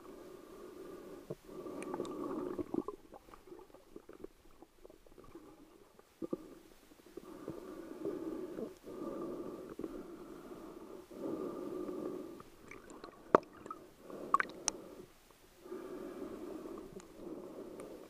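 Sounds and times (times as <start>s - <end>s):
muffled underwater water movement: 0.4s - 15.1s.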